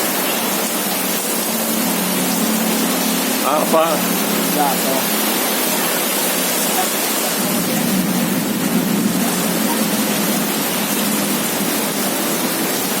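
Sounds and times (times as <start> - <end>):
rain pouring in strong wind: 0.0 - 13.0.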